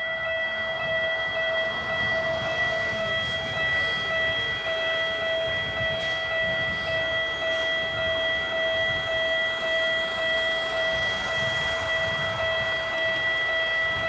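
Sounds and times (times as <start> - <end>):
level crossing warning bell ringing: 0.0 - 14.0.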